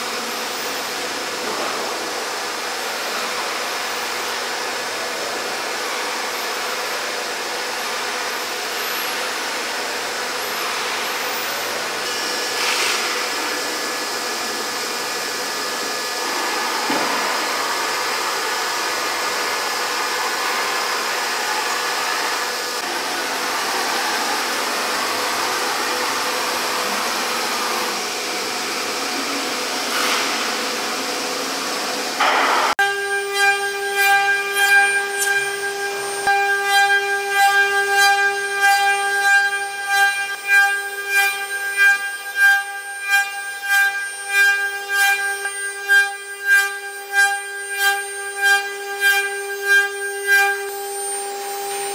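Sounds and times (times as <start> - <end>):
wood-carving router whirring: 0.0 - 51.9.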